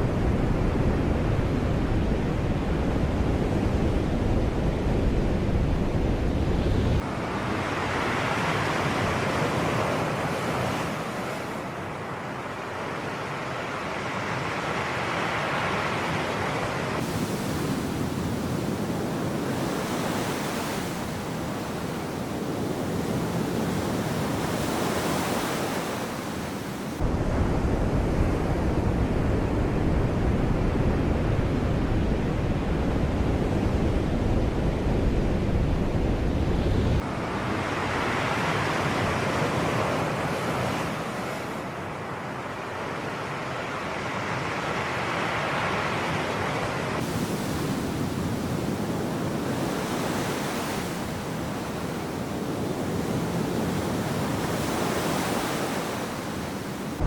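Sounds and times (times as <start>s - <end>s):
wind rumble on microphone: 0.0s - 11.7s, 15.6s - 41.7s, 46.0s - 57.0s
sea waves washing ashore: 1.0s - 29.8s, 30.9s - 57.0s.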